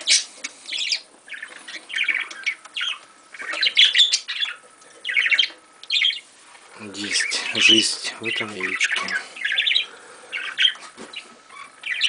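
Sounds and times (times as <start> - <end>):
budgerigar chirping: 0.0 - 6.2, 7.1 - 12.0.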